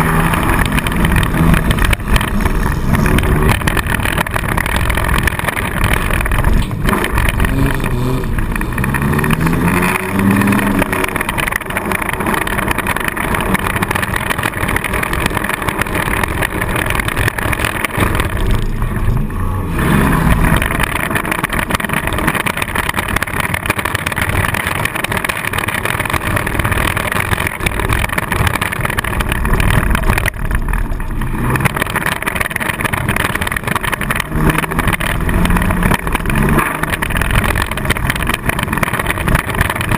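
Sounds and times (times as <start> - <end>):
car engine revving: 0.0 - 39.9
rattle and road noise: 0.0 - 39.9.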